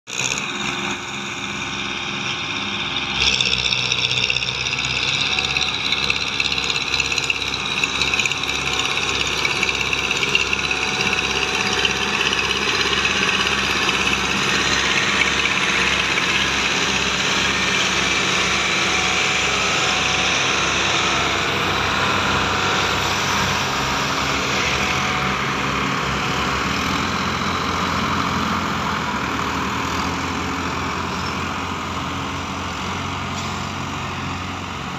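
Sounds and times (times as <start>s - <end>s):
diesel tractor engines running: 0.1s - 34.9s.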